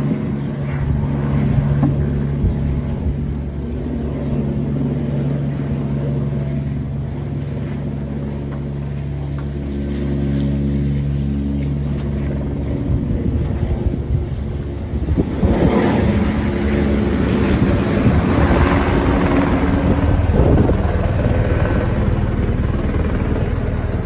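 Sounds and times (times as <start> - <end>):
helicopter rotor drone: 0.0 - 24.0
rotor downwash buffeting microphone: 0.0 - 24.0.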